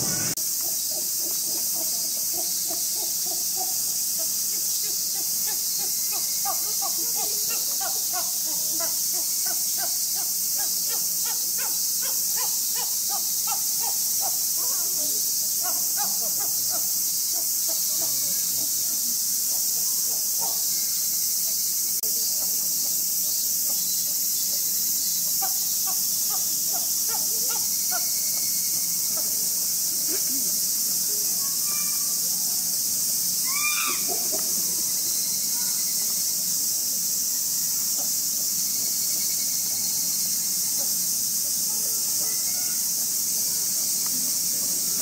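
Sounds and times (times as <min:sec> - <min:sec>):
cicadas droning: 0:00.0 - 0:45.0.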